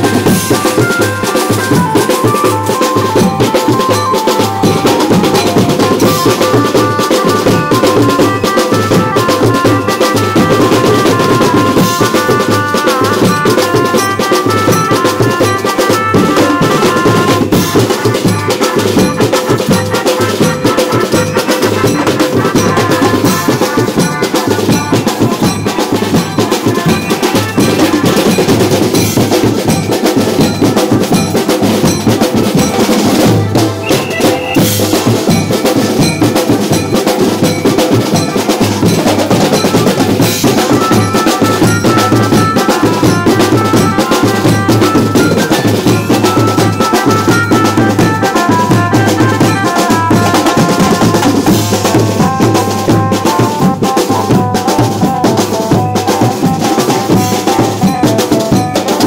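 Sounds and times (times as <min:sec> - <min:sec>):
fast dense drum rhythm: 0:00.0 - 0:59.0.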